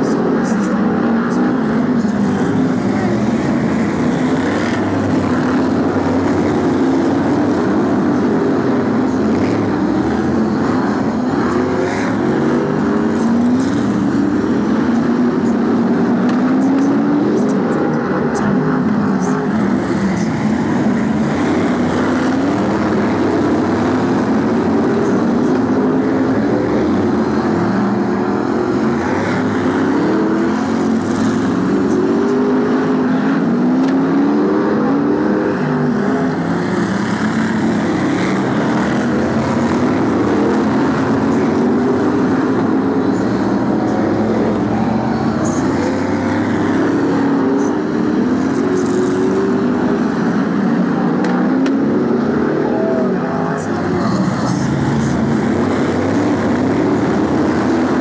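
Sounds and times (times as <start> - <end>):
race car engines racing: 0.0 - 58.0.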